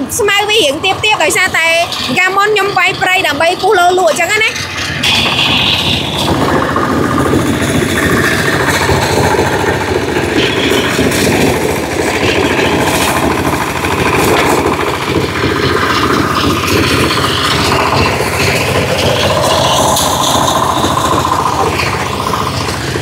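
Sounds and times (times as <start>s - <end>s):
diesel engine chugging: 0.0s - 23.0s
rotary cutter chopping grass: 0.0s - 23.0s.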